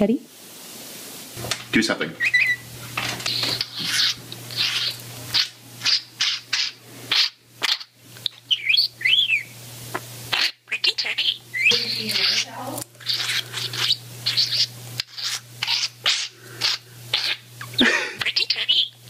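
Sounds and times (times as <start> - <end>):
budgerigar chattering: 2.2 - 2.6, 3.2 - 9.5, 10.3 - 19.0.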